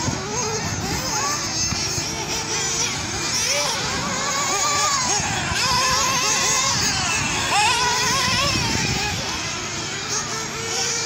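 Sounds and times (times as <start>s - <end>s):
rc car engines buzzing: 0.0s - 11.0s.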